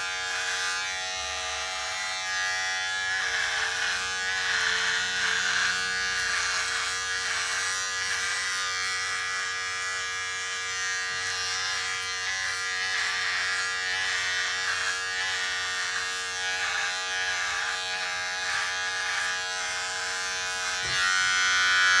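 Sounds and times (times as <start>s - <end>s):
electric razor buzzing: 0.0s - 22.0s.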